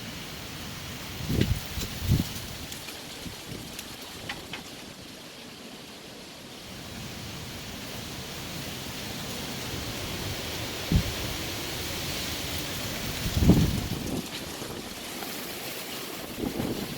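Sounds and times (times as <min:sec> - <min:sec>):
heavy rain: 0:00.0 - 0:16.9.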